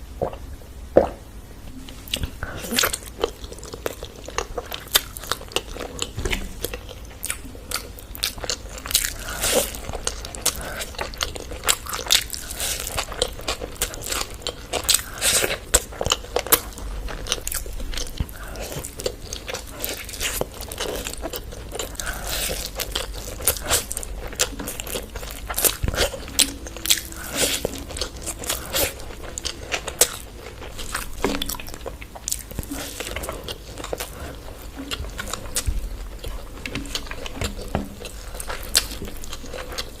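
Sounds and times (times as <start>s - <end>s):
person chewing food: 0.2s - 40.0s.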